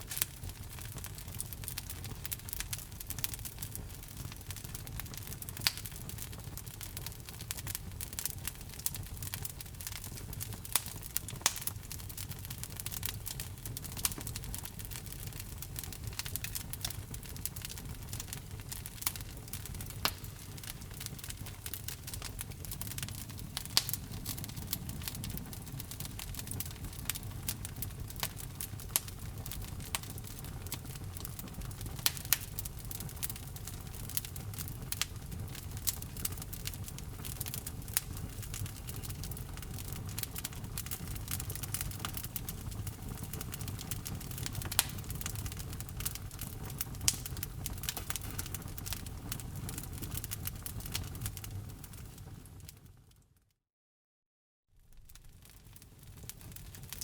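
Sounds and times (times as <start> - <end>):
low rumble of flame: 0.0 - 53.2, 54.8 - 57.0
fire crackles and pops: 0.0 - 53.3, 54.8 - 57.0.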